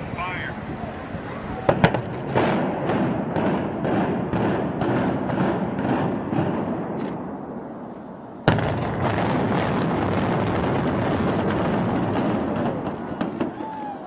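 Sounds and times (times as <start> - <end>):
explosive blast: 1.6 - 7.6, 8.4 - 13.8.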